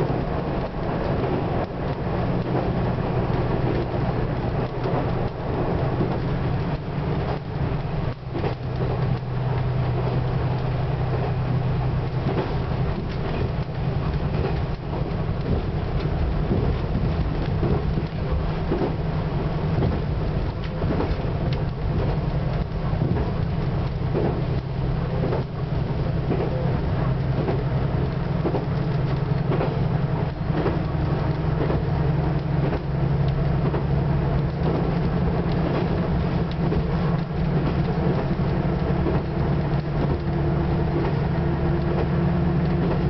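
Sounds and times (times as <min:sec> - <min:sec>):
railcar engine drone: 0:00.0 - 0:43.0
wheels clattering over rails: 0:00.0 - 0:43.0.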